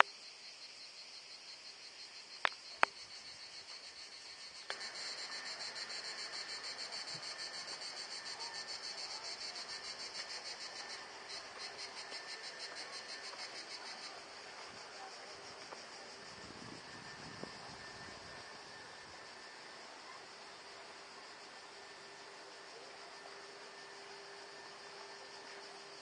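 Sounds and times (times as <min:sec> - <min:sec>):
cicadas buzzing: 0:00.0 - 0:26.0.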